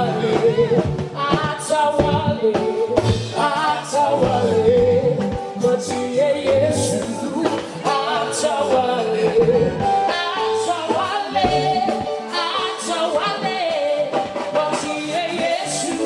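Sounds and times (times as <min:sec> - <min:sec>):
gospel singing with band: 0:00.0 - 0:16.0.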